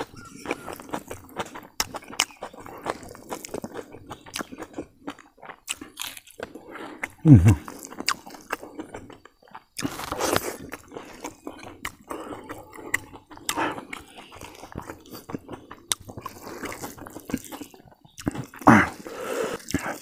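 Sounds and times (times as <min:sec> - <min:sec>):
chewing with wet mouth smacks: 0:00.0 - 0:20.0.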